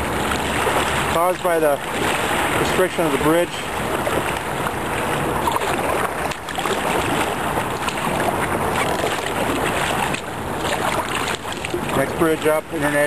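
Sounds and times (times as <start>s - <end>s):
river water rushing and splashing: 0.0s - 13.0s.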